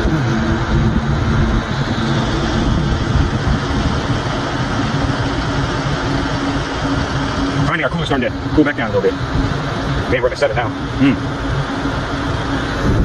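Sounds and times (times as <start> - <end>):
compressor and fan humming: 0.0 - 13.0.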